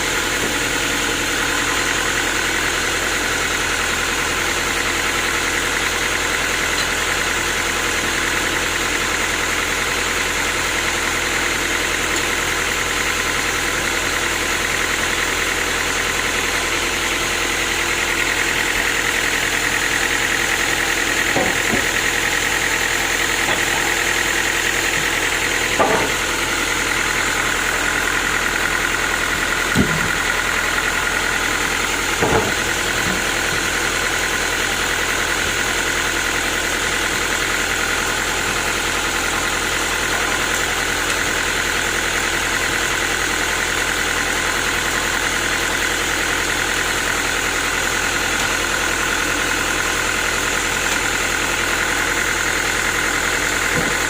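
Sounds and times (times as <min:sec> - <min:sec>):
sawmill machinery whining: 0:00.0 - 0:54.0.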